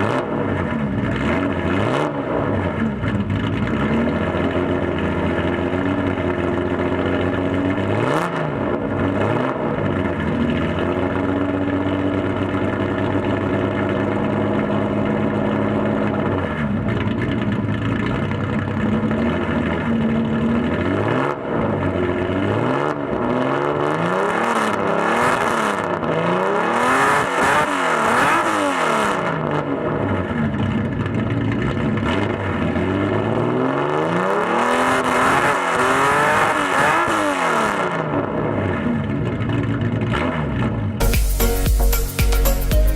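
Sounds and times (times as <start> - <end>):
car engine revving: 0.0 - 42.8.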